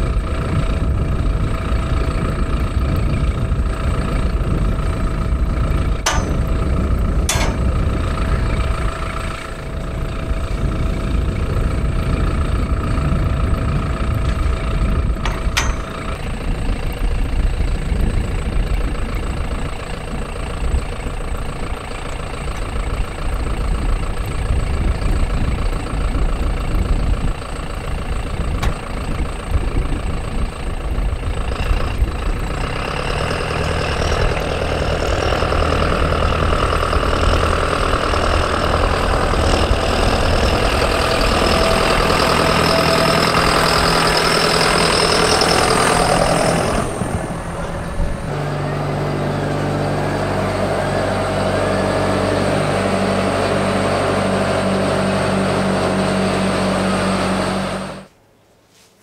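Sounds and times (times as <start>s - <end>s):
tractor diesel engine: 0.0s - 58.2s.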